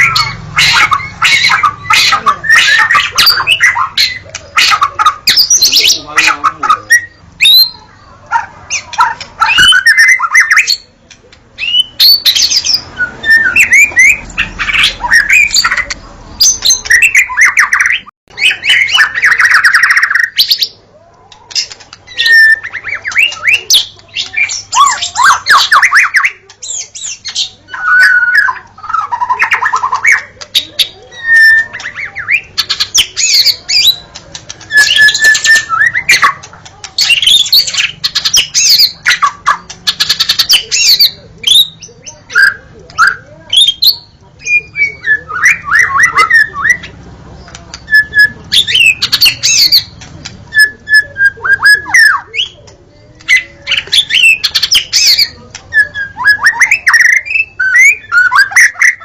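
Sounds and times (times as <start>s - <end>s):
songbird whistles and trills: 8.7s - 10.9s, 11.6s - 59.0s.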